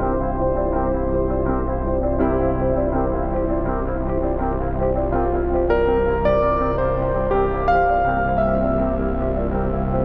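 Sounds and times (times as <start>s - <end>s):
ambient music with held chords: 0.0s - 10.0s.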